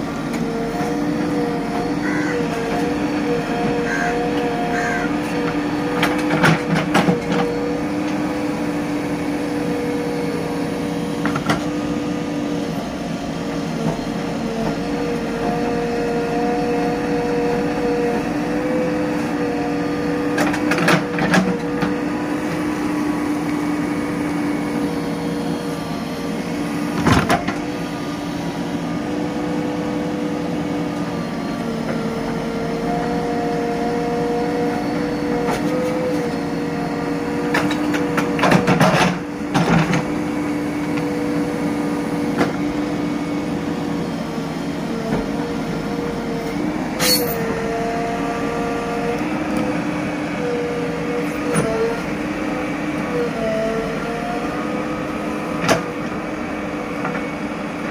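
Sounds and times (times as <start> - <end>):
backhoe diesel engine digging: 0.0 - 57.9.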